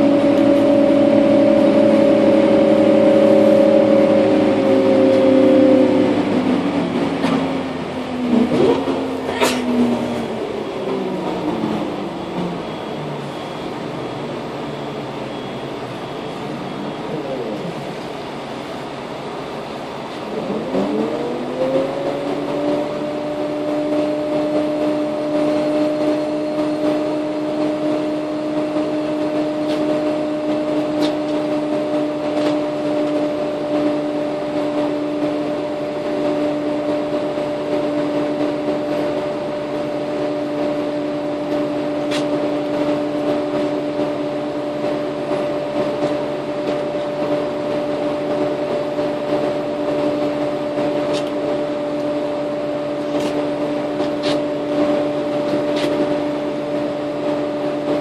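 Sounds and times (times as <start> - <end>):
bus mechanical whine: 0.0 - 58.0
low hum: 0.0 - 58.0.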